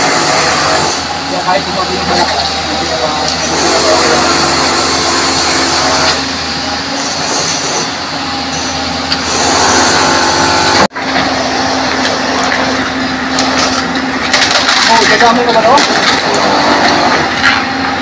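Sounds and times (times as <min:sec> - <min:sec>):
heavy machinery running: 0:00.0 - 0:18.0.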